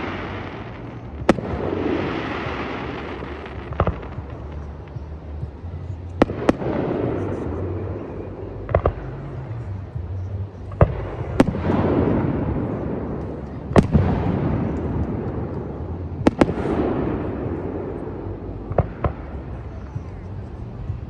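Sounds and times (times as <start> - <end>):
fireworks bursting with bangs: 0.0 - 21.0.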